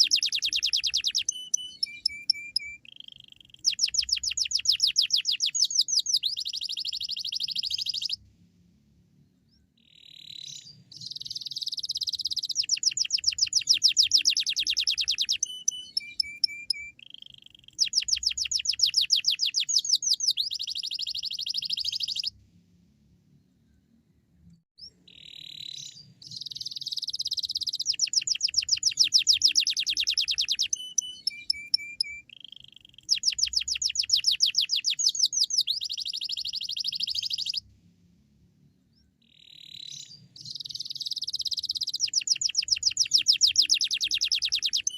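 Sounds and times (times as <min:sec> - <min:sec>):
canary trilling and chirping: 0:00.0 - 0:08.2, 0:10.1 - 0:22.3, 0:25.1 - 0:37.6, 0:39.4 - 0:44.9.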